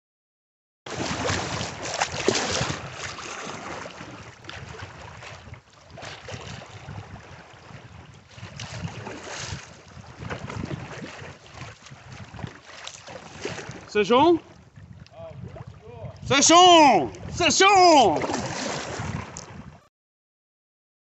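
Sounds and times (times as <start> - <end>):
water splashing against kayak hull: 0.9 - 19.8
wind buffeting microphone: 1.2 - 19.8.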